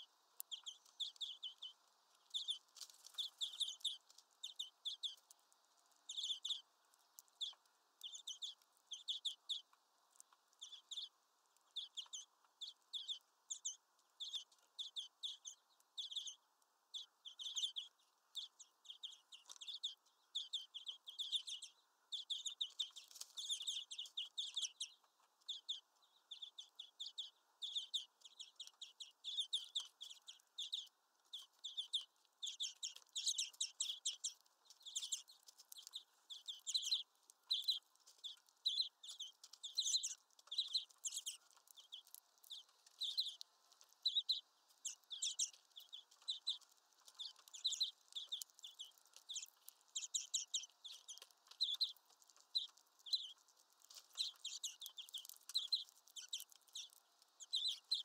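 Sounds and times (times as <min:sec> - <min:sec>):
finches chipping: 0:00.0 - 0:58.0.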